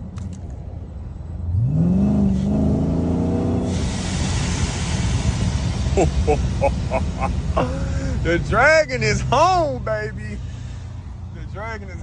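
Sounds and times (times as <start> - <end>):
car engine accelerating: 0.5 - 12.0.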